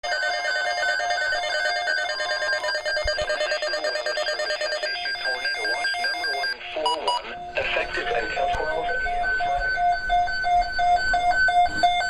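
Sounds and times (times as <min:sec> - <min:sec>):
electronic ringing tone: 0:00.0 - 0:12.0.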